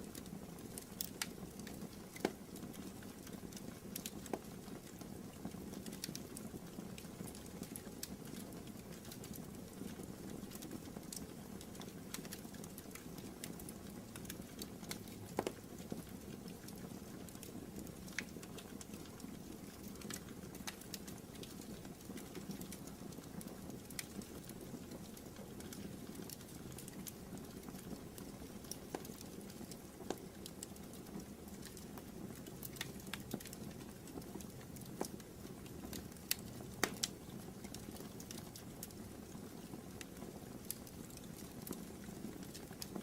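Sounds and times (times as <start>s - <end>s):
fire crackling and popping: 0.0s - 43.0s.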